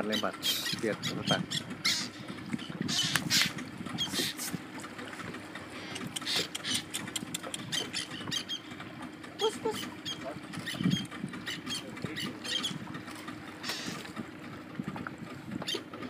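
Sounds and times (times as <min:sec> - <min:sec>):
seabirds squeaking and chirping: 0:00.0 - 0:16.0.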